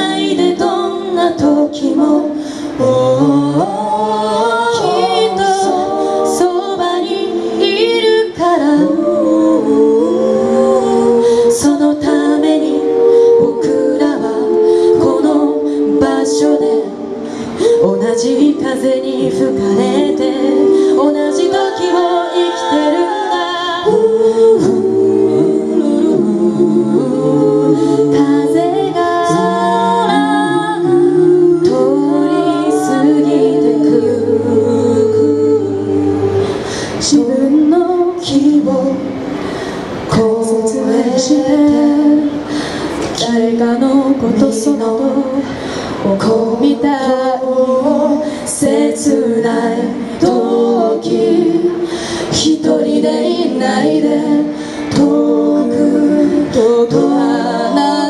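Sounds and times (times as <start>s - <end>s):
a cappella group singing harmony: 0.0s - 58.0s.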